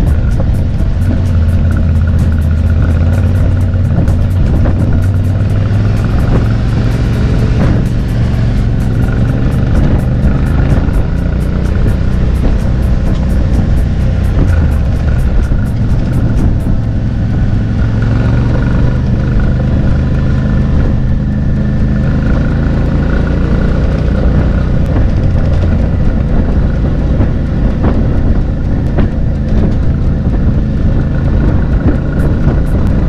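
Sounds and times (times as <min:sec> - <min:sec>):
motorcycle engine running: 0:00.0 - 0:33.0
road noise on gravel: 0:00.0 - 0:33.0
wind: 0:00.0 - 0:33.0.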